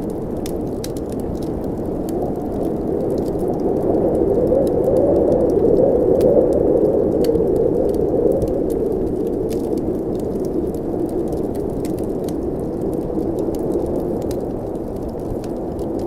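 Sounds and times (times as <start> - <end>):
blizzard wind rushing: 0.0 - 16.0
fireplace fire crackling: 0.0 - 16.0.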